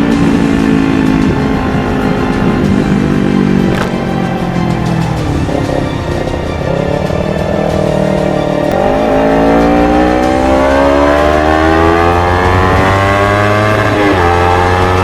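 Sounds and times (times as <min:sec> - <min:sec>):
motorcycle engine accelerating hard: 0:00.0 - 0:15.0.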